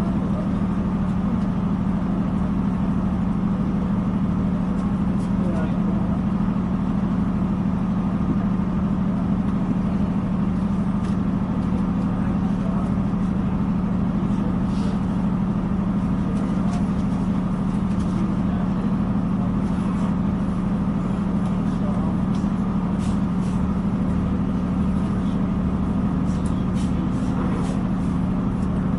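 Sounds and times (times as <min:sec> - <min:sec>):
diesel train drone: 0:00.0 - 0:28.9.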